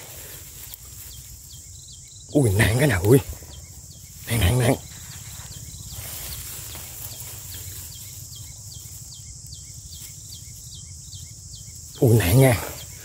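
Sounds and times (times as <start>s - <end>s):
insects droning and chirping: 0.0s - 13.0s.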